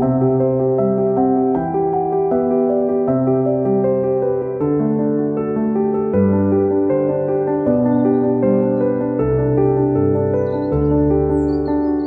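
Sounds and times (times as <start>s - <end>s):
cinematic piano music: 0.0s - 12.0s.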